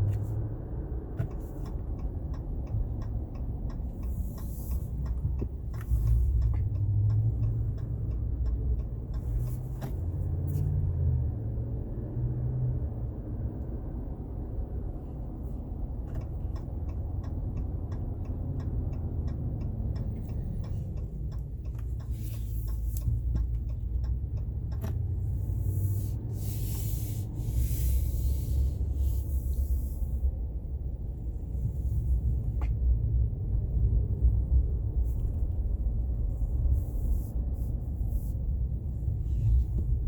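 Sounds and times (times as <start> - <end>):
road rumble inside a vehicle: 0.0 - 40.0.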